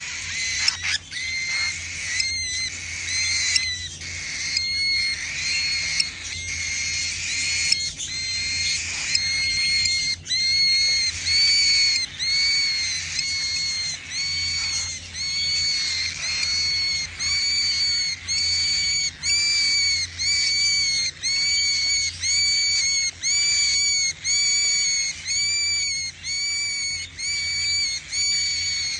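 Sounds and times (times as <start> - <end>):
baby cockatiel calling: 0.0 - 28.9.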